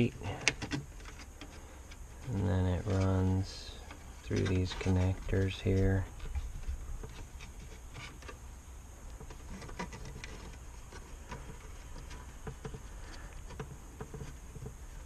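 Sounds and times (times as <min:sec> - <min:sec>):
faint low hum: 0:00.0 - 0:15.0
light rustling of wiring: 0:00.0 - 0:15.0.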